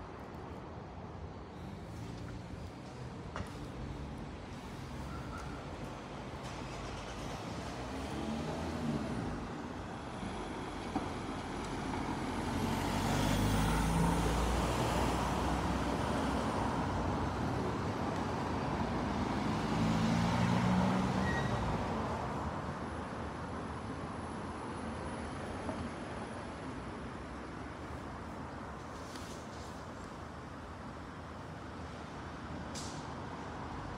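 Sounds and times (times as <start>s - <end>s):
steady traffic hum: 0.0s - 33.9s
vehicles driving past: 0.1s - 33.9s.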